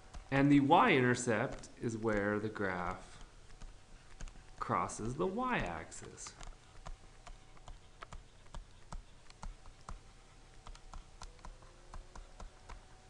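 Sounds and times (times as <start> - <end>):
stylus tapping on tablet screen: 0.0 - 12.9.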